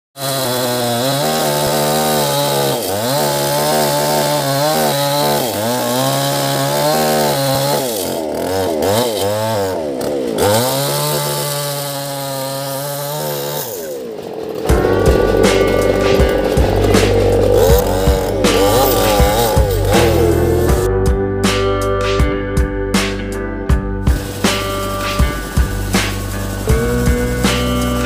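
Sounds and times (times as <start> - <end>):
chainsaw cutting a log: 0.2 - 20.9, 24.1 - 28.0.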